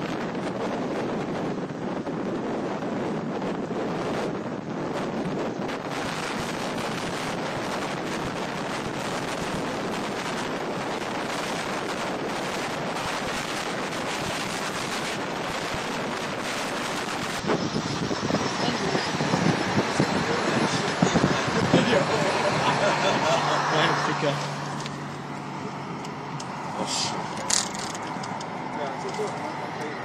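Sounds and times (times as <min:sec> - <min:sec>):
gusty wind buffeting: 0:00.0 - 0:30.0
road noise at highway speed: 0:00.0 - 0:30.0
rushing wind: 0:00.0 - 0:30.0.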